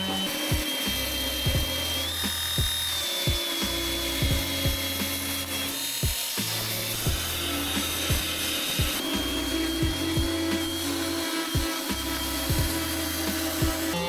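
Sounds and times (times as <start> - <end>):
angle grinder grinding steel: 0.0 - 14.0
hip-hop beat with deep bass: 0.0 - 14.0.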